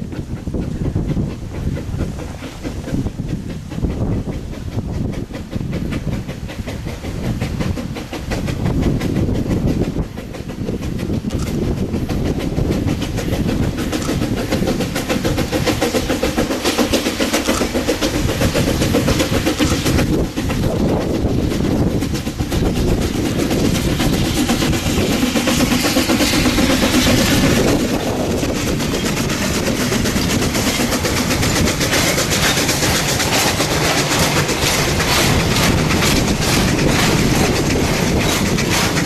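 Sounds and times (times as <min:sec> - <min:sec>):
steam train passing: 0:00.0 - 0:39.0
wheels clattering over rail joints: 0:00.0 - 0:39.0.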